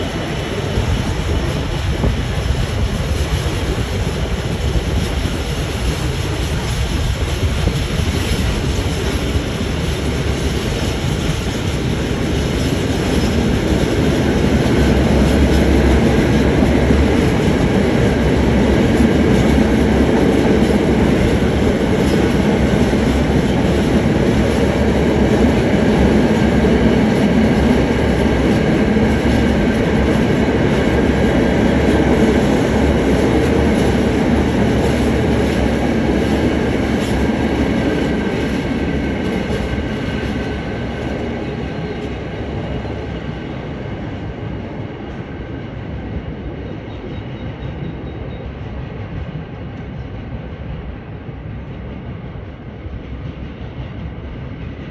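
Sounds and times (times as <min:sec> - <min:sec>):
freight train passing: 0:00.0 - 0:54.9.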